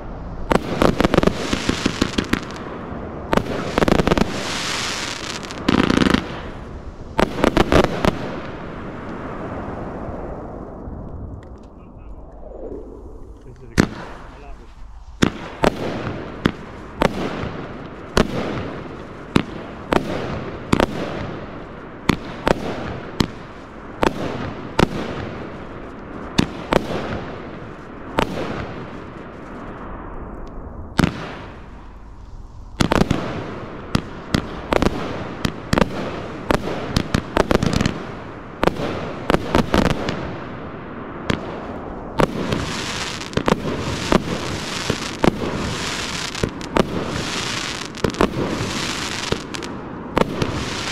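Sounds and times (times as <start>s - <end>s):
firework crackle: 0.0s - 50.9s
firework reports: 0.0s - 50.9s.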